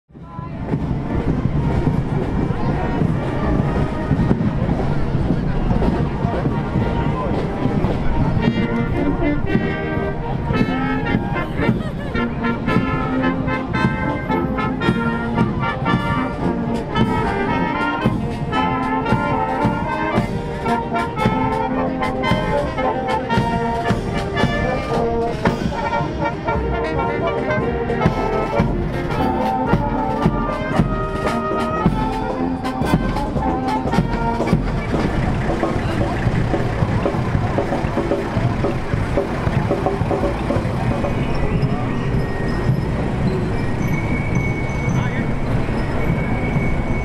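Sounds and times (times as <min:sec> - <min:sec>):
marching brass band: 0:00.1 - 0:47.0.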